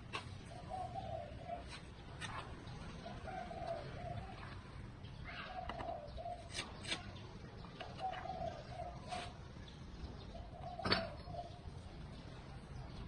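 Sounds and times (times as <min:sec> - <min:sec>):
bird calling: 0:00.2 - 0:13.0.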